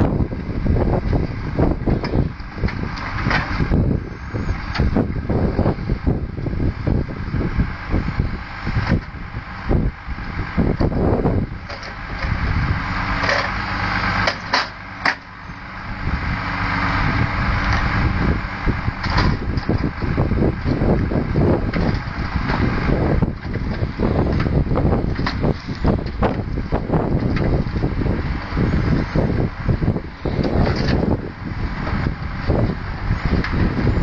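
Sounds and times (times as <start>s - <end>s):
diesel engine under load: 0.0s - 34.0s.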